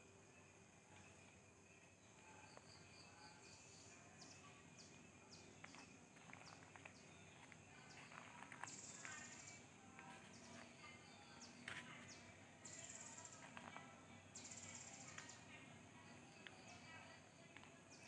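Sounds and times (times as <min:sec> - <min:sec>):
birds chirping: 0:02.1 - 0:18.0.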